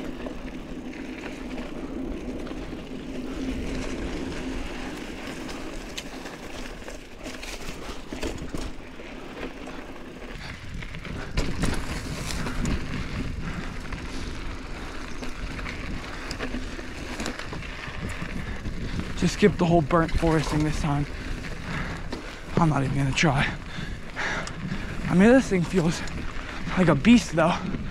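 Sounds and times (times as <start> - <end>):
bike clicks and rattles: 0.0 - 27.9
mountain bike tyre rumble on dirt: 0.0 - 27.9.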